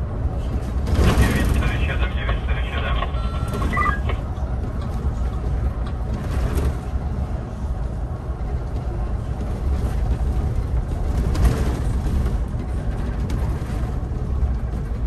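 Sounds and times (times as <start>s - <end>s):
bus engine rumble from inside: 0.0s - 15.0s.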